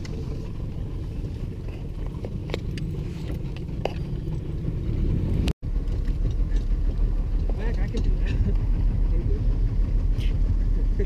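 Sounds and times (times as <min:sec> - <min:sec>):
outboard motor rumbling: 0:00.0 - 0:11.0.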